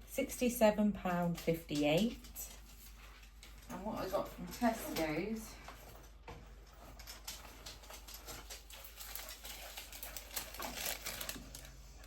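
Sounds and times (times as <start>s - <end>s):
paper receipt rustling: 1.2s - 12.0s.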